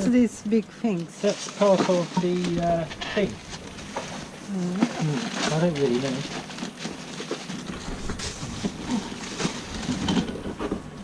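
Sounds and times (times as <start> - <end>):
rustling and light knocks: 1.0 - 11.0.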